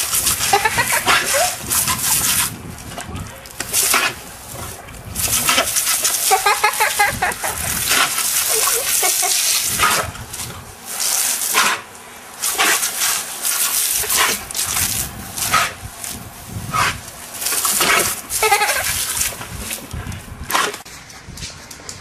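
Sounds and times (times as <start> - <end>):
hose spray hissing and splattering: 0.0 - 21.0.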